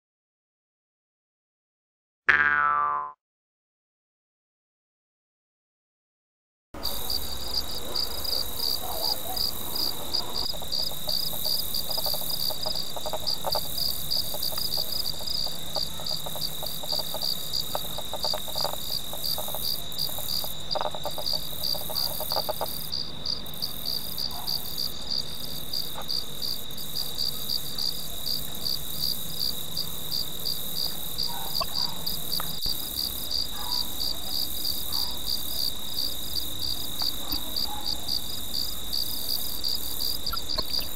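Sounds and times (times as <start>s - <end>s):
crickets chirping: 6.8s - 40.9s
faint lower insect calls: 6.8s - 40.9s.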